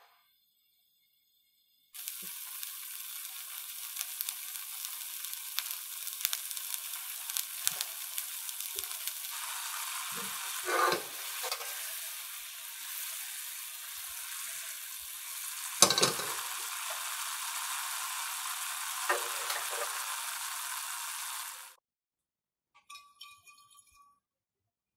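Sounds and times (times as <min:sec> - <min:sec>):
liquid sizzling in a frying pan: 0:01.6 - 0:21.8.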